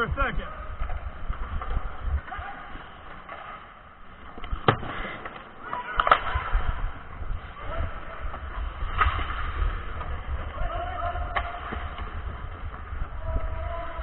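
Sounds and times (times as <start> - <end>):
skate blades scraping ice: 0.5 - 14.0.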